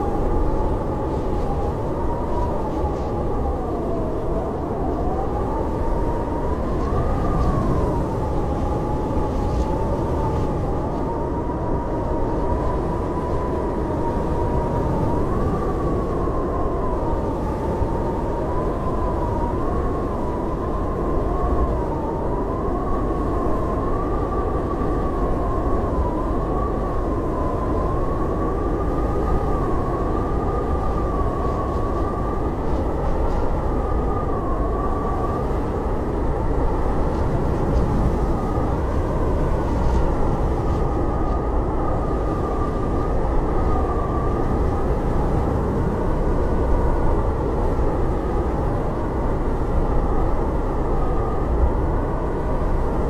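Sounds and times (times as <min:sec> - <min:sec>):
blizzard wind howling: 0:00.0 - 0:53.0.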